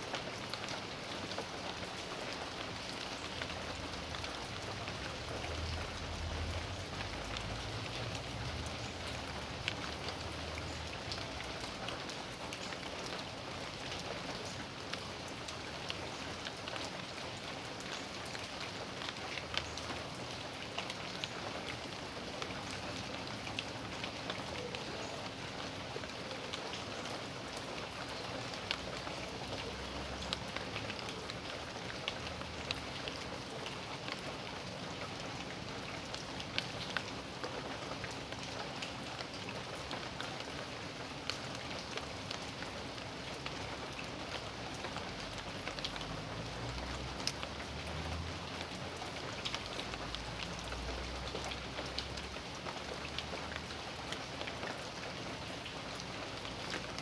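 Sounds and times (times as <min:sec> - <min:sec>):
raindrops tapping surfaces: 0:00.0 - 0:57.0
steady rain hiss: 0:00.0 - 0:57.0.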